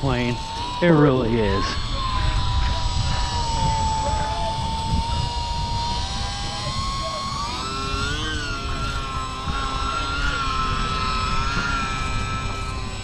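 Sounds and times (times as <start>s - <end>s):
small electric motor whining: 0.0s - 13.0s
wind buffeting microphone: 0.0s - 13.0s.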